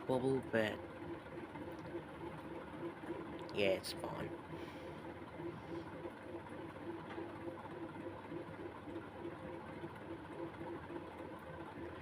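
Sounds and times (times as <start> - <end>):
ceiling fan motor hum pulsing: 0.0 - 12.0.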